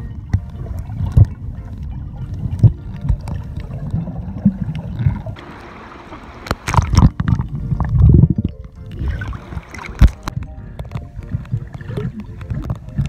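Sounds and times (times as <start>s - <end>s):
underwater knocks and gurgles: 0.0s - 13.0s
underwater rumble of moving water: 0.0s - 13.0s
water splashing: 0.0s - 13.0s.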